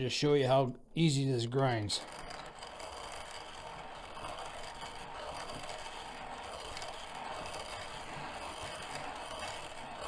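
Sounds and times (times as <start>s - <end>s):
hand grinder grinding coffee beans: 1.4s - 10.0s.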